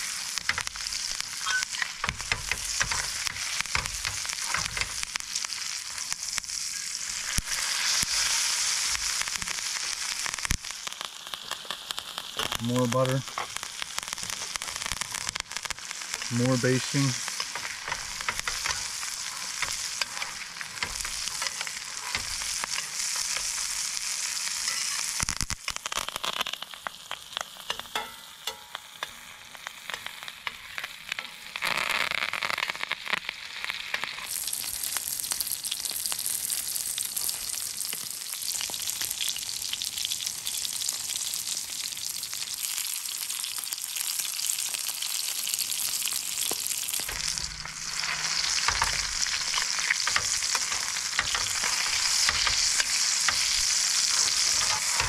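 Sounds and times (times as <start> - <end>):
steak sizzling in butter: 0.0 - 55.0.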